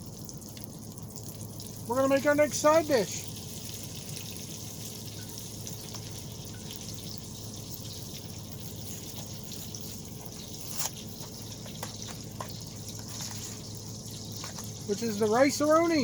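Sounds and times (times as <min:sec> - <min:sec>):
pan sizzling: 0:00.0 - 0:16.0.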